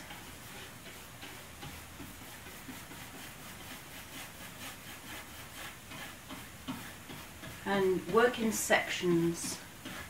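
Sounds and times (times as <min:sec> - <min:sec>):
paint brush scratchy swishing: 0:00.0 - 0:10.0.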